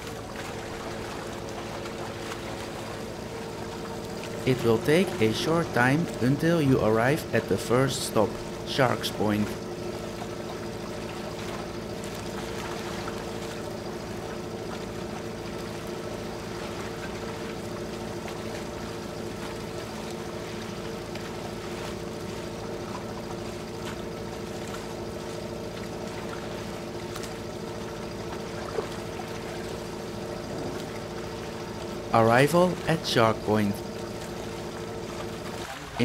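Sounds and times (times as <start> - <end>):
boat engine running: 0.0 - 36.0
water rushing along hull: 0.0 - 36.0.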